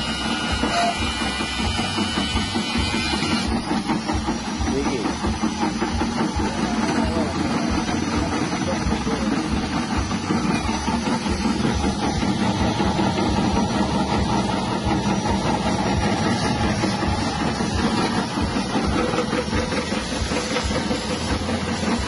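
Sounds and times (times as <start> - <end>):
electric slicing machine running: 0.0 - 22.0.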